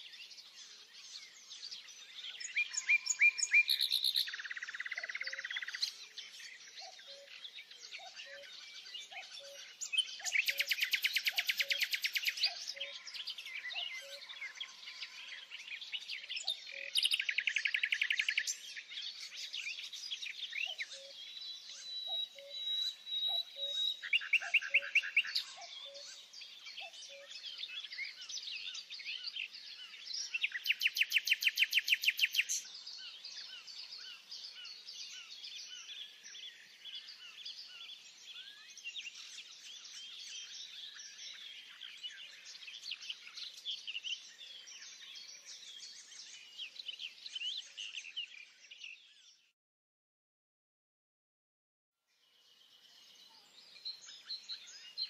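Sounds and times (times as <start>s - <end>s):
songbirds chirping: 0.0s - 49.6s, 52.0s - 55.0s.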